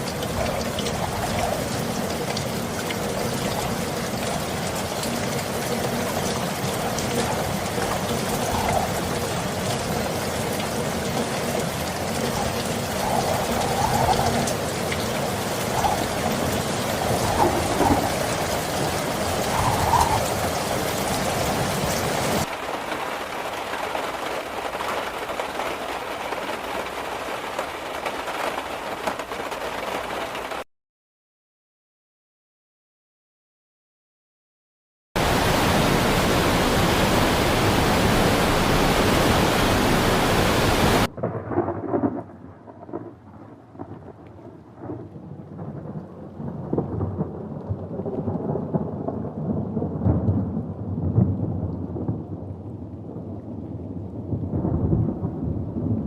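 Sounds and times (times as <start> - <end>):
heavy rain in windstorm: 0.0 - 30.6, 35.2 - 56.0.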